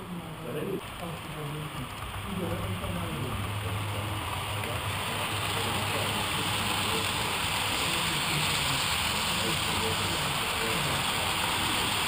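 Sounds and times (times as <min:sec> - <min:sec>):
model train wheels rolling: 0:00.0 - 0:12.0.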